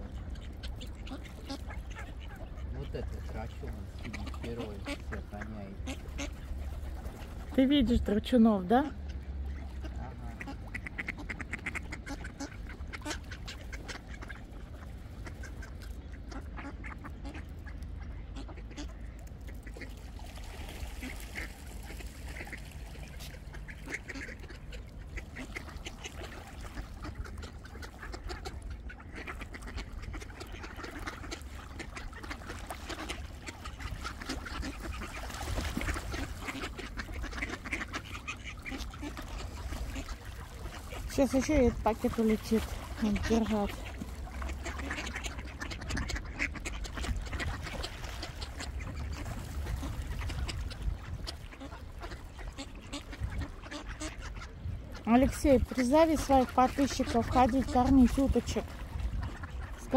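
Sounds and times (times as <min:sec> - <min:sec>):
ducks quacking: 0:00.0 - 0:59.9
low steady rumble: 0:00.0 - 0:59.9.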